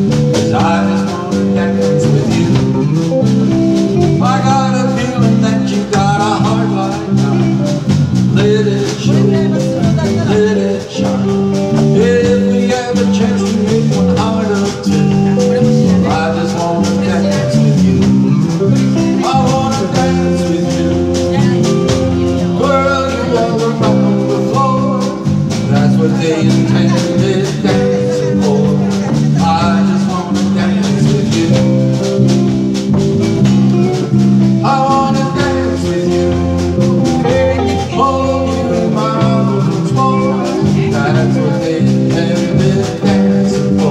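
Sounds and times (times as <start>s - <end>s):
country band playing: 0.0s - 43.9s
man singing: 0.0s - 43.9s.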